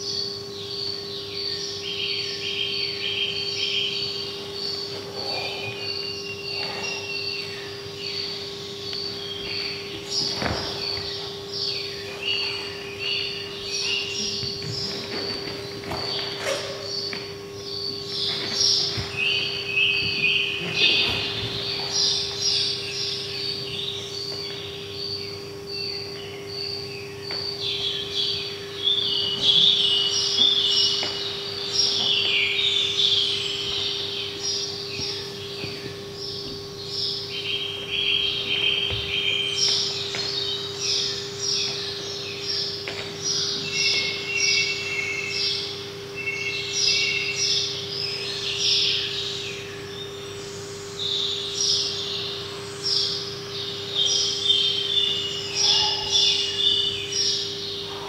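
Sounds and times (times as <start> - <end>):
birds chirping and twittering: 0.0 - 58.0
steady hum: 0.0 - 58.0.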